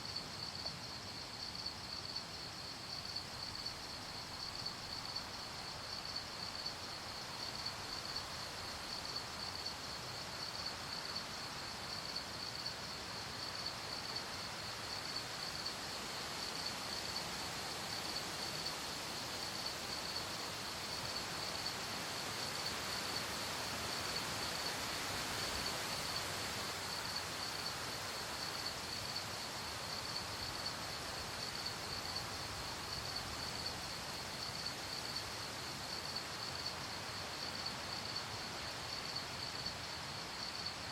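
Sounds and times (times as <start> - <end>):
crickets chirping: 0.0 - 40.9
soft hiss of night ambience: 0.0 - 40.9.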